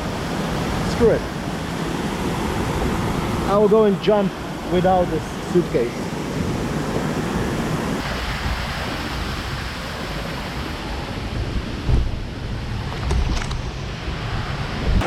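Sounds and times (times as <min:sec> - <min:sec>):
river water rushing: 0:00.0 - 0:12.9
wind buffeting microphone: 0:00.0 - 0:15.0.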